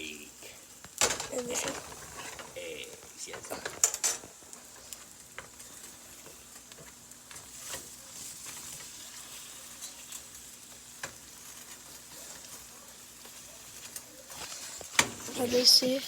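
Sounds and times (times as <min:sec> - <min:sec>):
food sizzling with crackling pops: 0:00.0 - 0:16.0.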